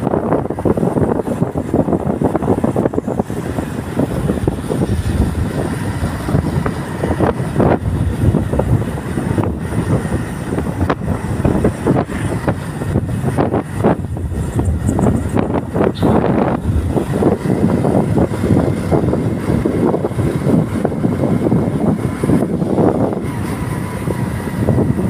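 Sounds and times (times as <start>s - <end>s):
motorcycle engine: 0.0s - 25.0s
road noise: 0.0s - 25.0s
wind buffeting microphone: 0.0s - 25.0s.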